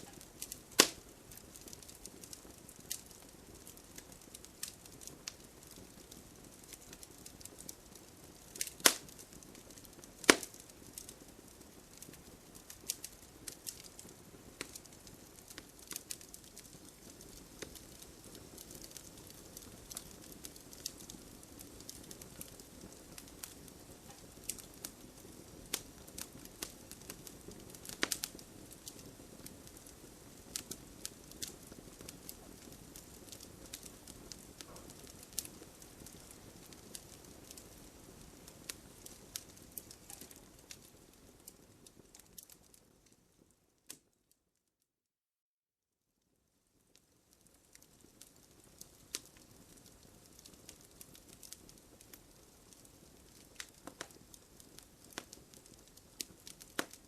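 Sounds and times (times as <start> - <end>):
campfire crackling and popping: 0.0 - 44.1, 46.8 - 57.0.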